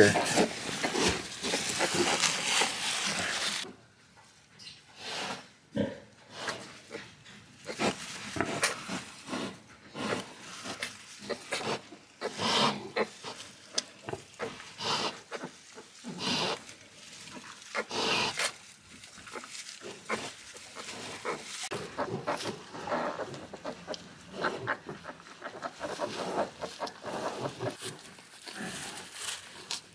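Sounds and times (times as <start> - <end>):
piglet rustling in wood shavings: 0.0 - 3.7, 6.3 - 29.9.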